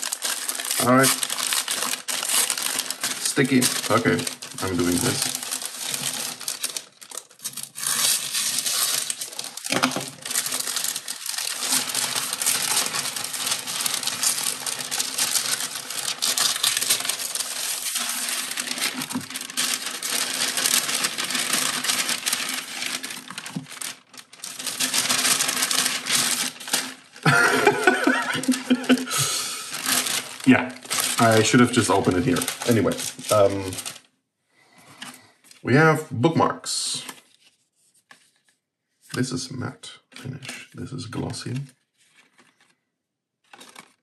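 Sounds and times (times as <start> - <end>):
paper envelope tearing and rustling: 0.0 - 34.1, 40.2 - 42.8, 43.4 - 44.0.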